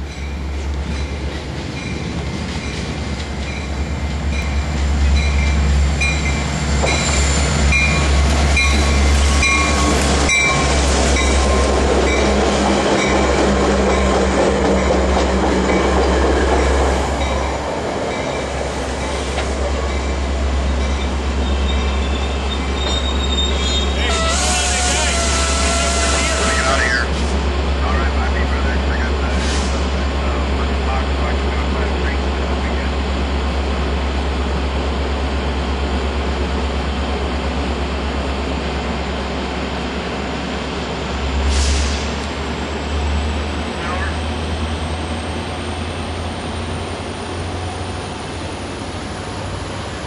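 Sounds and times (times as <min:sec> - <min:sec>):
train low rumble: 0:00.0 - 0:50.0.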